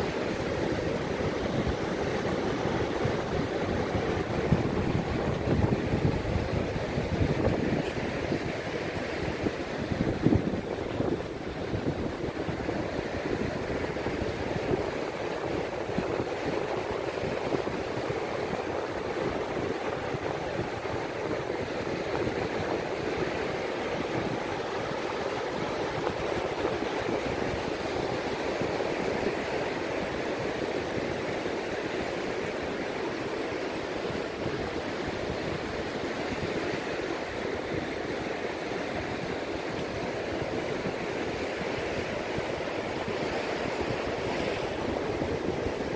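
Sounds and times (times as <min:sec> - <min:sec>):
wind buffeting microphone: 0:00.0 - 0:33.0, 0:33.6 - 0:45.9
ocean surf breaking on beach: 0:00.0 - 0:45.9.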